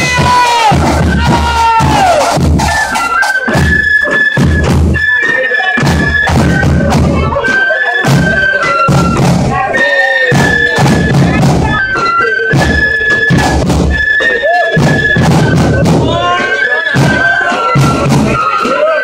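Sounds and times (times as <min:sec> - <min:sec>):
bass drum and snare drums: 0:00.0 - 0:18.9
flutes playing in unison: 0:00.0 - 0:19.0.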